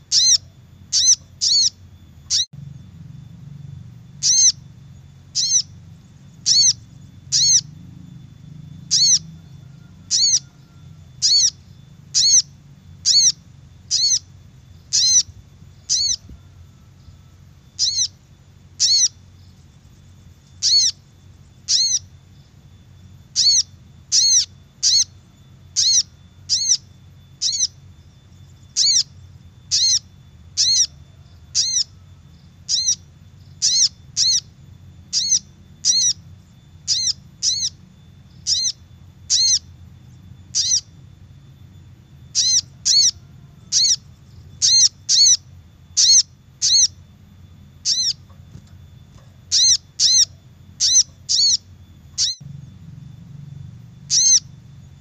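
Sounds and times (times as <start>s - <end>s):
recorded bird call: 0.0s - 55.0s
steady low hum: 0.0s - 55.0s.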